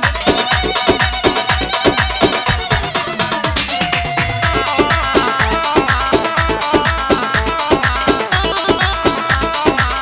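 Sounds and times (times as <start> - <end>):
instrumental dance music: 0.0 - 10.0.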